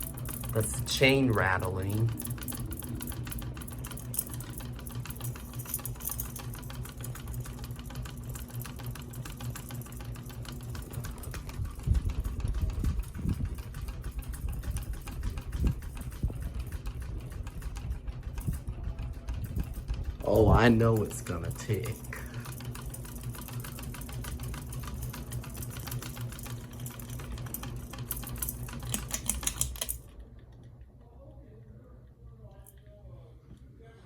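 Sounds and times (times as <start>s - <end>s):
pull chain rattling: 0.0s - 18.6s, 19.4s - 30.3s
ceiling fan motor hum: 0.0s - 34.0s.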